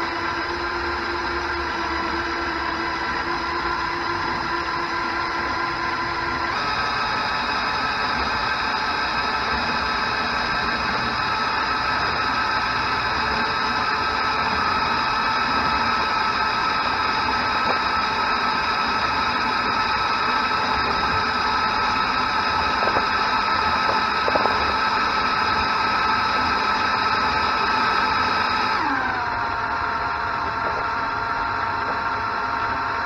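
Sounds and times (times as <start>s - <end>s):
toy electric motors whining: 0.0s - 33.0s.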